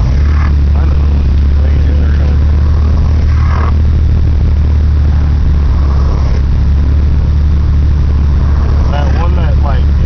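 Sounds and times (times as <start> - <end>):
deep bass from car stereo: 0.0 - 10.0.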